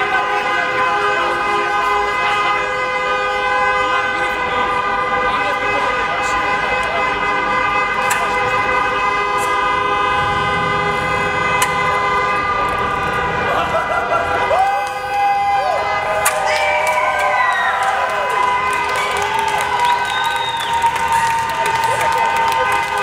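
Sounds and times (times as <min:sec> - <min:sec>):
crowd chatter: 0:00.0 - 0:23.0.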